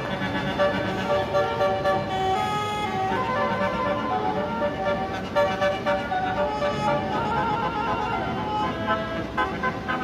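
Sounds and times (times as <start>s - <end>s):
bus horn playing a melody: 0.0s - 10.0s.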